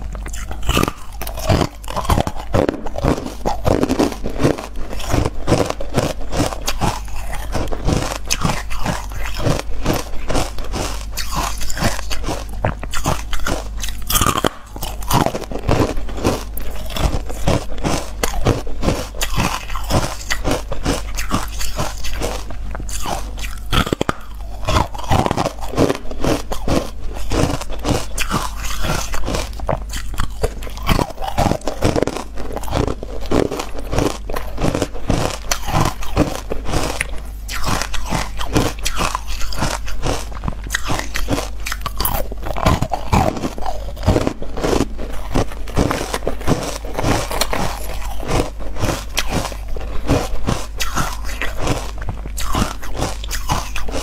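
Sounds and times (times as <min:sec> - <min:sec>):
crunching and chewing ice: 0:00.0 - 0:54.0
steady low hum: 0:00.0 - 0:54.0.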